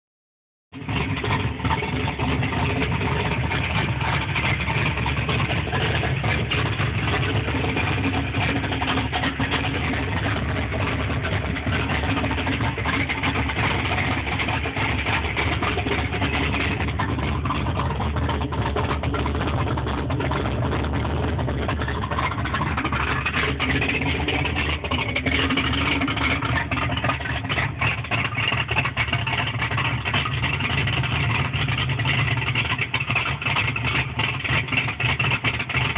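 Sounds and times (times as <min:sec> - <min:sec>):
car engine idling: 0:00.7 - 0:35.9.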